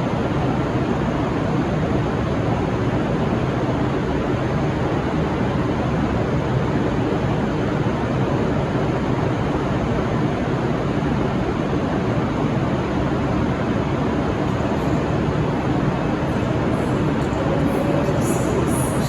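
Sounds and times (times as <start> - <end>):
diesel train engines rumbling: 0.1 - 19.0.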